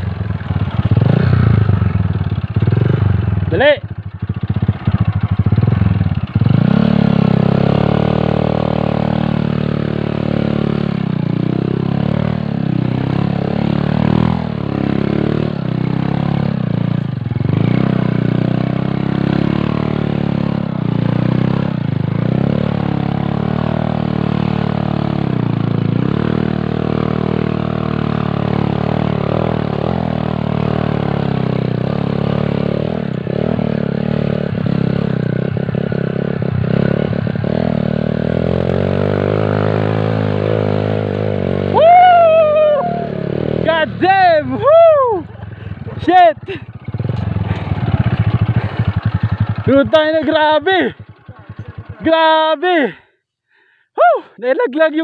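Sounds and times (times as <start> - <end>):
motorcycle engine revving: 0.0 - 53.1.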